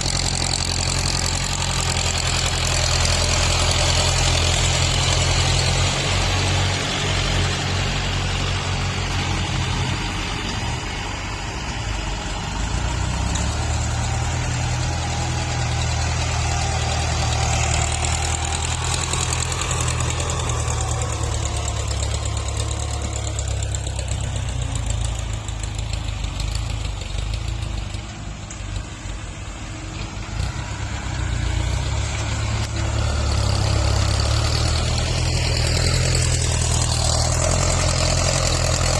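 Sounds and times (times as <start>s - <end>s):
tractor engines droning: 0.0s - 38.9s.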